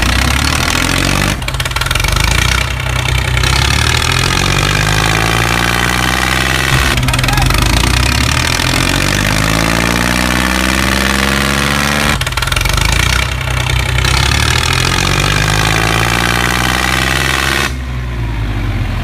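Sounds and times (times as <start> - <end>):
small tractor motor running: 0.0 - 11.0, 11.6 - 16.6.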